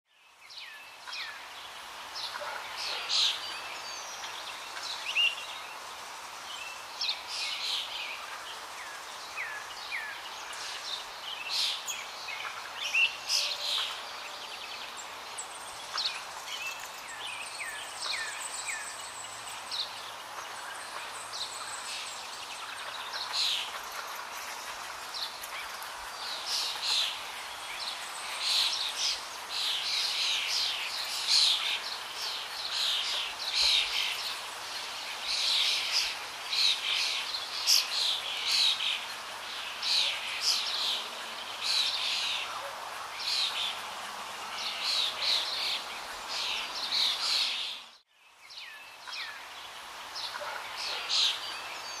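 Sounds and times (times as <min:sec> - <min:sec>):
birds chirping: 0:00.1 - 0:52.0
steady background hiss: 0:00.1 - 0:52.0.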